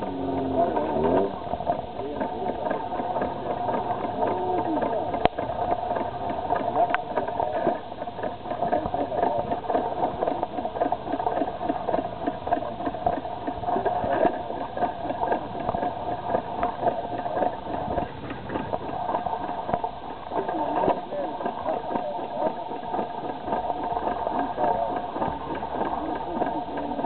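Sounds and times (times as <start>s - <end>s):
stationary engine beating: 0.0s - 27.0s.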